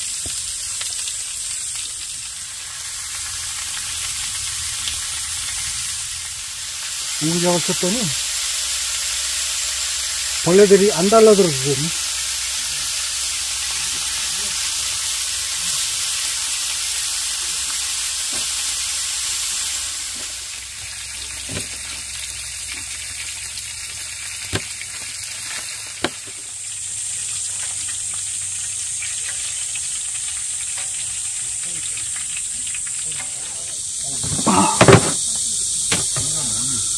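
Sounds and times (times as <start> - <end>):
meat sizzling in a grill pan: 0.0 - 36.9.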